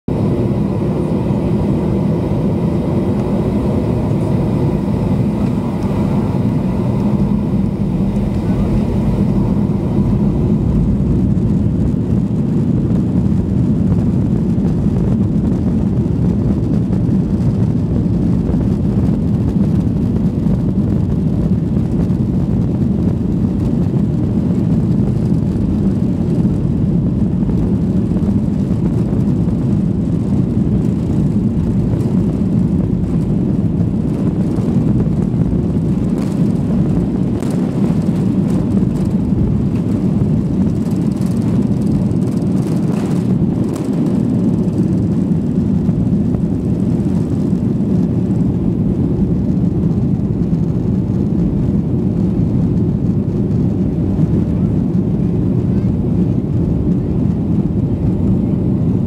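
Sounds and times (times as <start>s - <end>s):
engine whine: 0.0s - 59.0s
jet engines: 0.0s - 59.0s
wheels rumbling on runway: 0.1s - 59.0s.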